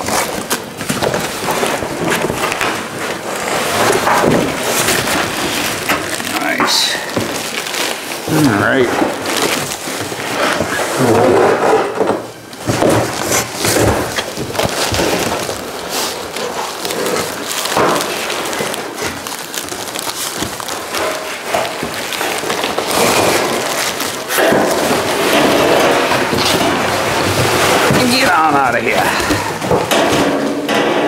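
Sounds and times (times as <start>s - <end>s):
cardboard and plastic rustling: 0.0s - 31.0s.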